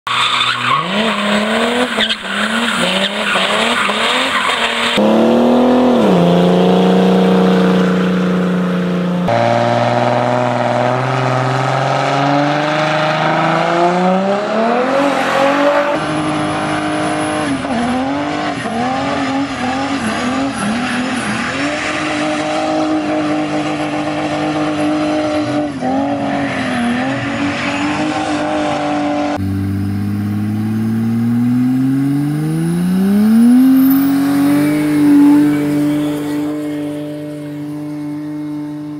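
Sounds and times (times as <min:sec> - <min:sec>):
car engines revving high: 0:00.0 - 0:38.9.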